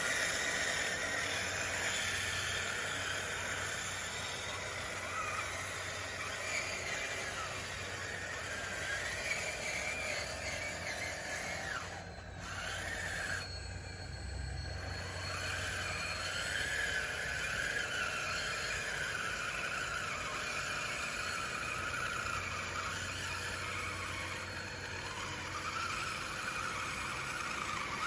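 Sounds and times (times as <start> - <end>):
small motors whining: 0.0 - 28.0.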